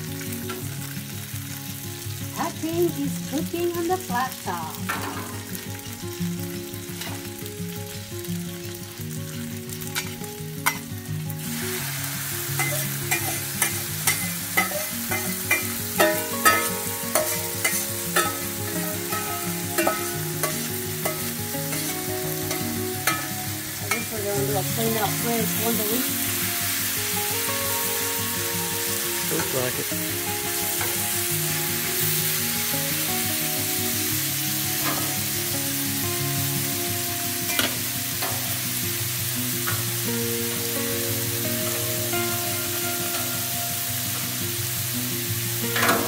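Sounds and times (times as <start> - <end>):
food sizzling on a griddle: 0.0 - 46.0.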